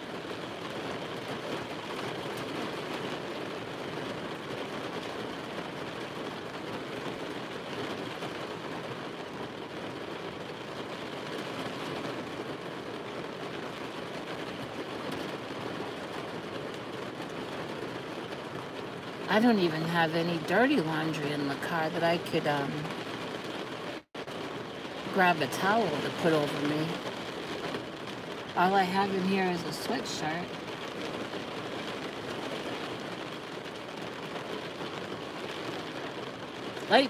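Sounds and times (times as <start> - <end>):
heavy rain on vehicle roof: 0.0 - 37.0.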